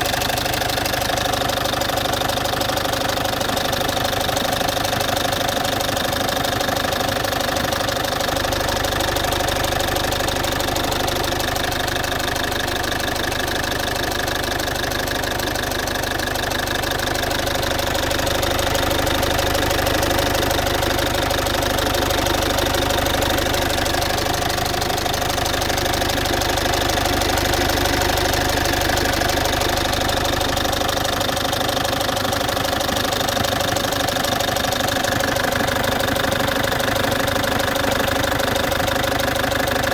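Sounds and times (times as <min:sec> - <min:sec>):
diesel engine idling: 0:00.0 - 0:39.9
engine ticking: 0:00.0 - 0:39.9.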